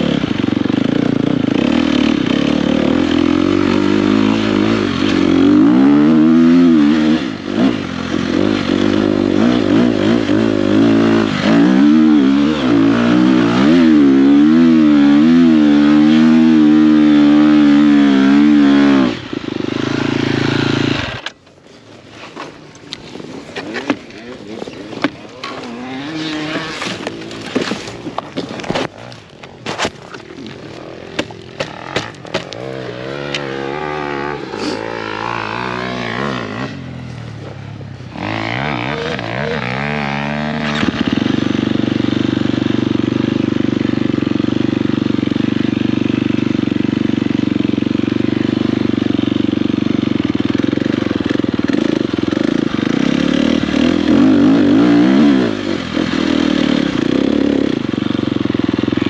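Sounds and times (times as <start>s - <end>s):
dirt bike engine revving: 0.0s - 21.4s, 23.1s - 59.0s.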